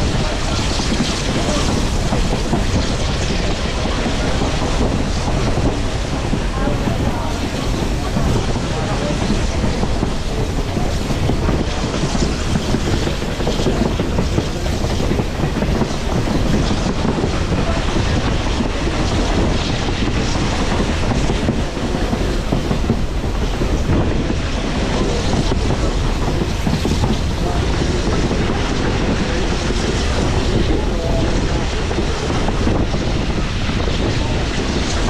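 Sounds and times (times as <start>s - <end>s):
train wheels rumbling on rails: 0.0s - 35.0s
wind noise: 0.0s - 35.0s.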